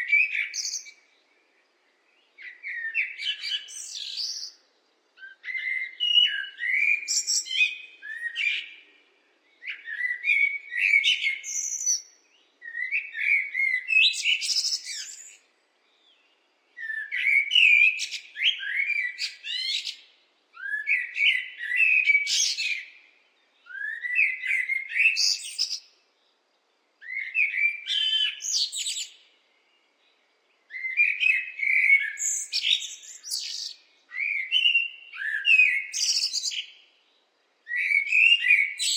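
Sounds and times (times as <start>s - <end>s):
blackbird singing: 0.0s - 26.4s, 27.0s - 38.9s.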